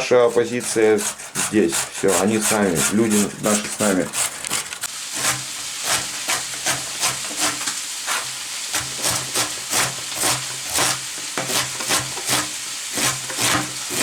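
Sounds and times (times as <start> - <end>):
knife shredding cabbage: 0.0 - 14.0
steady hiss: 0.0 - 14.0.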